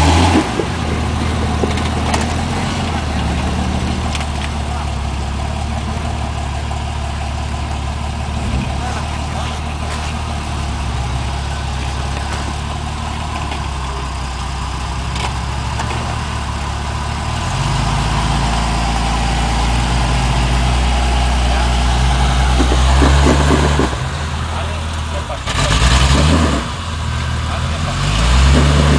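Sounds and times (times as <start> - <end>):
engine running at low revs: 0.0 - 28.9.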